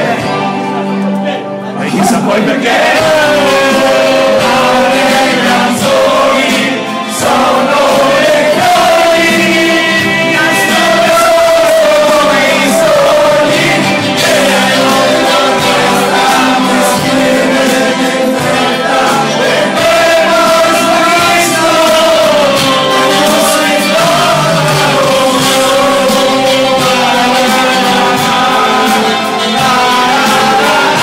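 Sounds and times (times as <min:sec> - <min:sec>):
group of voices singing: 0:00.0 - 0:31.0
live music: 0:00.0 - 0:31.0.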